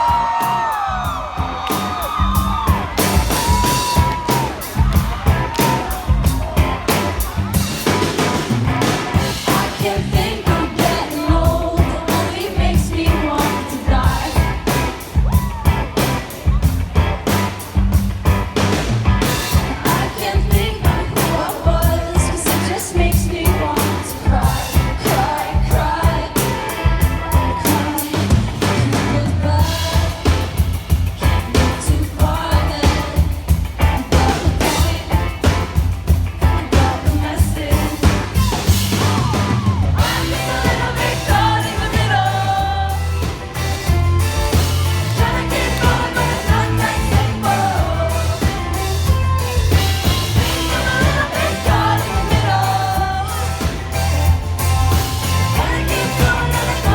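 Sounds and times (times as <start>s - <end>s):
drum kit beat: 0.0s - 56.9s
guitars: 0.0s - 56.9s
person singing lead vocal: 2.0s - 15.8s, 19.2s - 35.8s, 36.4s - 43.9s, 44.5s - 54.3s, 55.0s - 56.9s.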